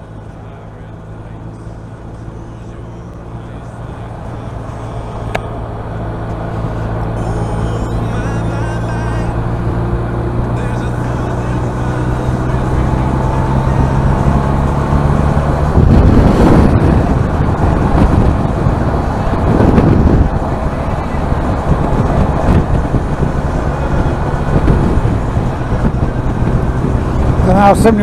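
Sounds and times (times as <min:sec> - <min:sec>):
wind rushing over microphone: 0:03.4 - 0:28.0.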